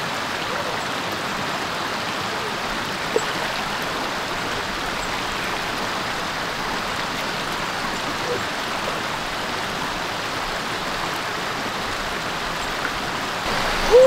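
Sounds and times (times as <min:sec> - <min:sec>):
creek water flowing: 0:00.0 - 0:14.0.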